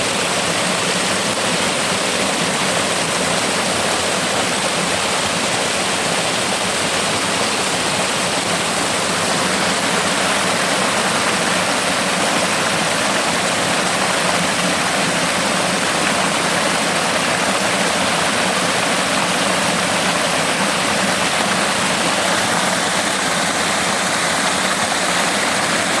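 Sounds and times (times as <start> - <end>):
rushing water roar: 0.0 - 26.0.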